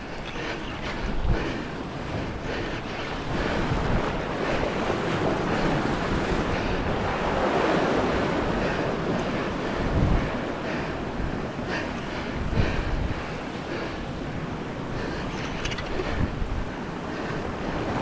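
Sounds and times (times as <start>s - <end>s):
sea surf washing on shore: 0.0s - 18.0s
wind buffeting microphone: 0.0s - 18.0s.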